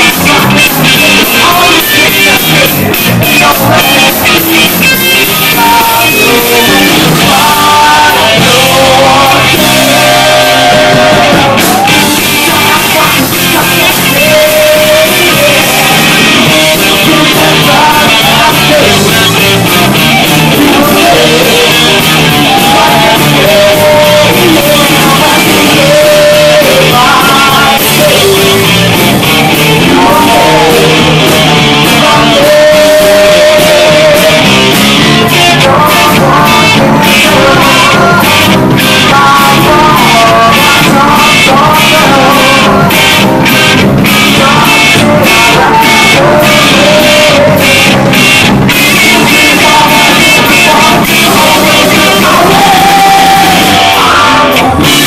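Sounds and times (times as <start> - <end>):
electric guitar: 0.0 - 55.0
keyboard: 0.0 - 55.0
man singing lead vocals: 0.0 - 55.0.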